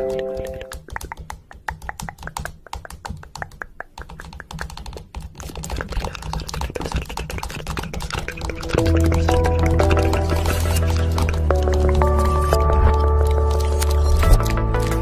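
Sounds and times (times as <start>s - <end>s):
rapid irregular clicking: 0.0s - 15.0s.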